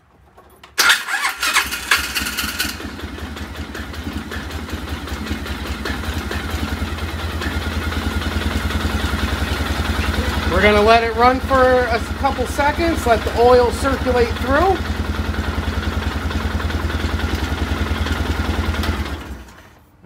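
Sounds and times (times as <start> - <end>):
engine idling: 0.8 - 19.9.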